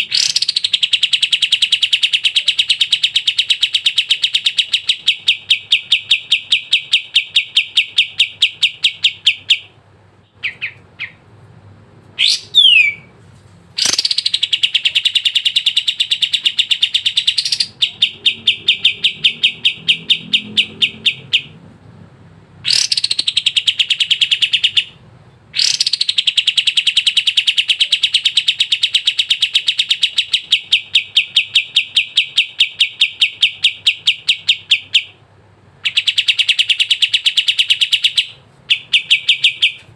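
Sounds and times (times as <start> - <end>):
songbird trilling: 0.0 - 9.7, 10.3 - 11.2, 12.2 - 13.1, 13.8 - 21.6, 22.6 - 25.0, 25.6 - 35.2, 35.8 - 39.9.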